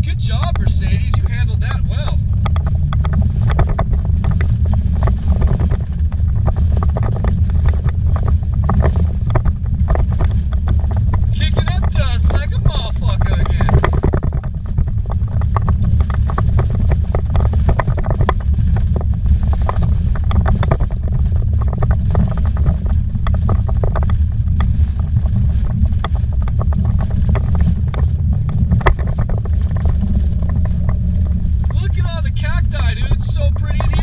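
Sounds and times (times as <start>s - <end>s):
sharp ticks and knocks: 0.0s - 34.0s
tyres rumbling on dirt road: 0.0s - 34.0s.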